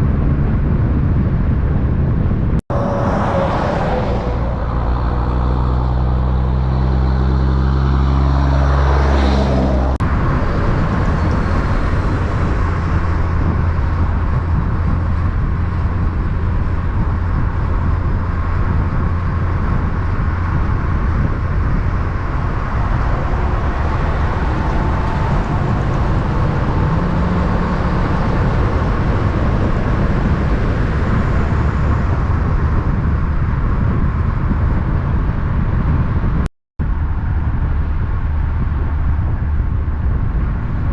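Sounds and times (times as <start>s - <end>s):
road traffic rumble: 0.0s - 40.9s
heavy truck engine passing: 2.7s - 40.9s.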